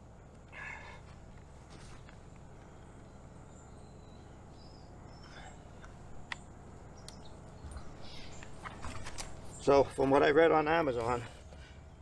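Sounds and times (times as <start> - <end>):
faint outdoor background noise: 0.0 - 12.0
soft bird chirps: 0.2 - 12.0.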